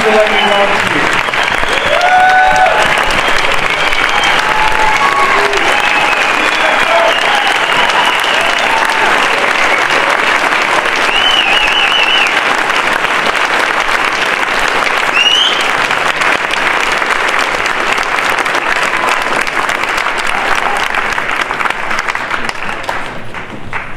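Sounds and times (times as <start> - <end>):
audience applauding: 0.0 - 23.9.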